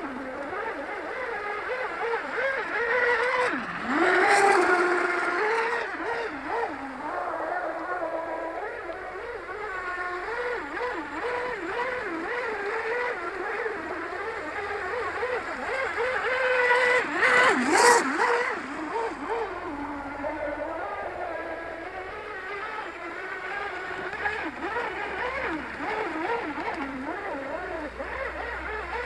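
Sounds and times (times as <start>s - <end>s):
rc boat motor whining: 0.0s - 29.0s.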